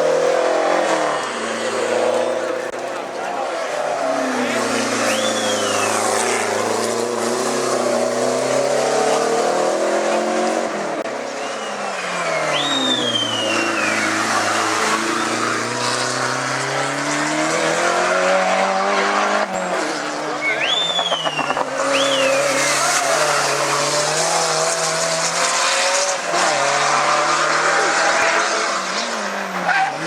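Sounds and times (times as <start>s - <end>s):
racing car engine revving: 0.0s - 30.0s.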